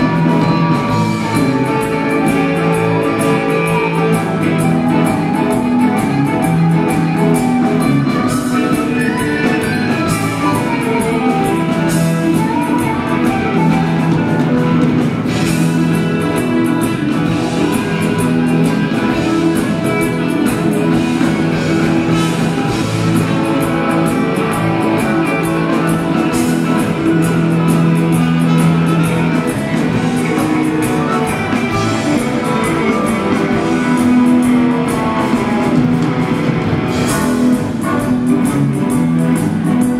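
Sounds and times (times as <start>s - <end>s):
drum kit: 0.0s - 39.9s
electric guitars: 0.0s - 39.9s
keyboards: 0.0s - 39.9s.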